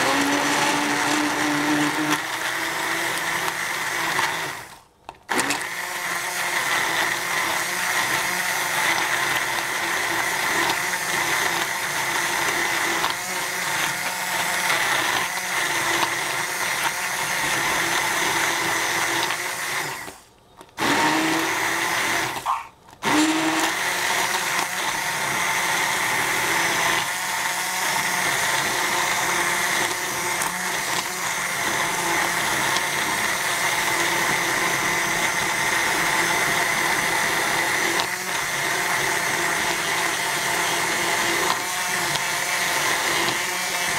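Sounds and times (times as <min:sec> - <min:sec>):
immersion blender running: 0:00.0 - 0:20.2, 0:20.8 - 0:43.9.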